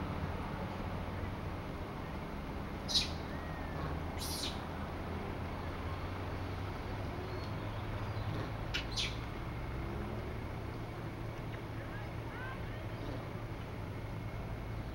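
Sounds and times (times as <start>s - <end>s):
motorbike engine idling: 0.0s - 14.9s.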